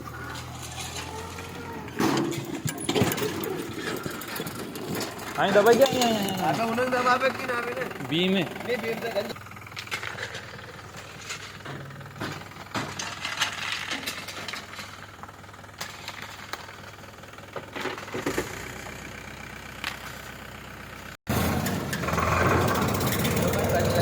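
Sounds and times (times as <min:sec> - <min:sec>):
metal clanks and rattles: 0:00.0 - 0:19.2, 0:21.3 - 0:24.0
heavy engine running: 0:00.0 - 0:24.0.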